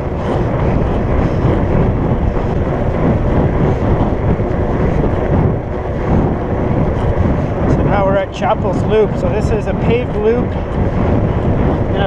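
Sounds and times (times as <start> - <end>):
bike tyres rolling on pavement: 0.0 - 12.0
wind rumble on microphone: 0.0 - 12.0.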